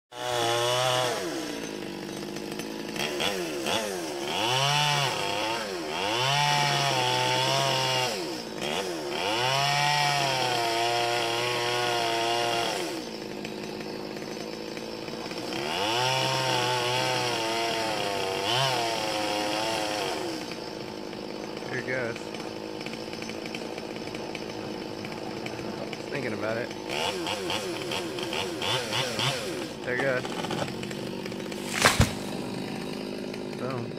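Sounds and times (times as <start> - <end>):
chainsaw revving: 0.1 - 33.9.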